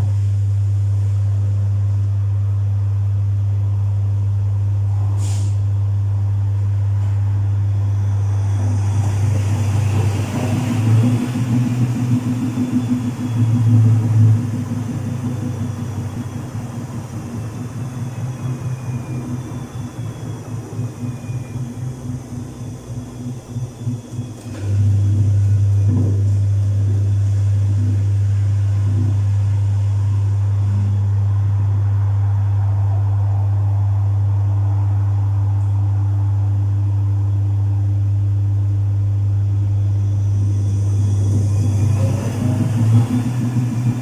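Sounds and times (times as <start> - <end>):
loud steady low hum: 0.0 - 44.0
washing machine pulsing rumble: 0.0 - 44.0.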